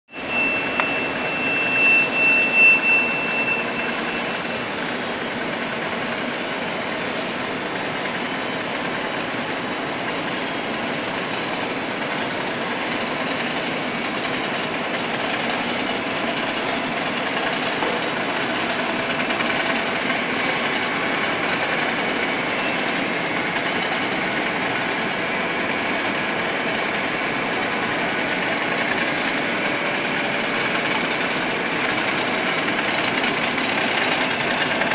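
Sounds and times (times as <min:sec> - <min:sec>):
high whine: 0:00.1 - 0:34.9
machine whirring and hissing: 0:00.1 - 0:34.9.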